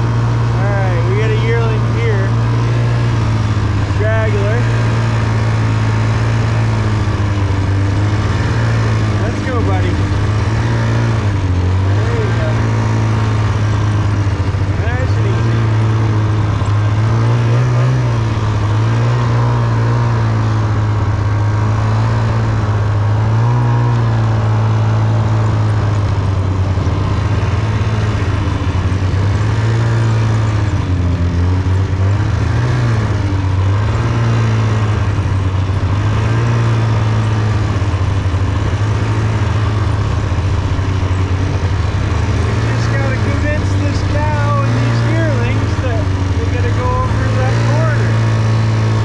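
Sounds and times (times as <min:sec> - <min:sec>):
snowmobile engine running: 0:00.0 - 0:49.0.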